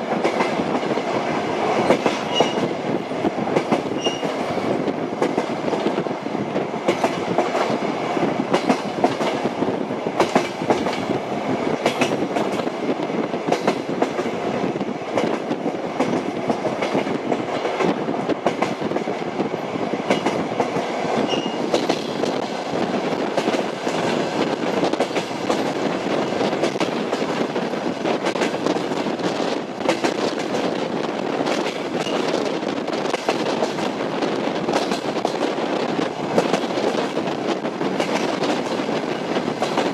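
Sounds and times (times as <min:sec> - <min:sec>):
train wheels clacking over rail joints: 0:00.0 - 0:19.2, 0:20.0 - 0:39.9
moving train rumble: 0:00.0 - 0:39.9.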